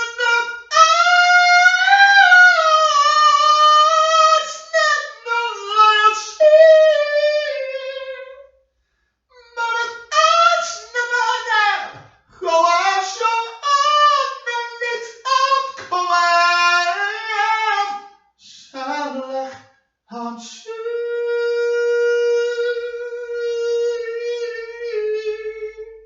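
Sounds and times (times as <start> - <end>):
person singing unaccompanied: 0.0 - 8.5, 9.3 - 26.0.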